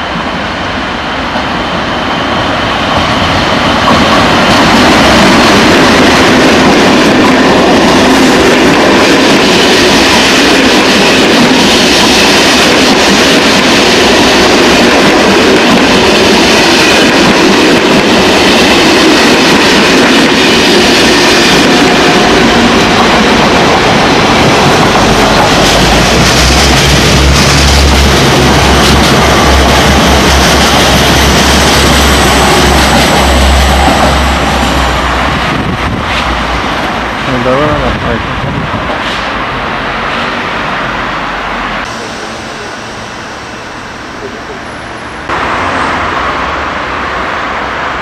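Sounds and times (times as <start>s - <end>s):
low train drone: 0.0s - 48.0s
train wheels rumbling on rails: 0.0s - 48.0s.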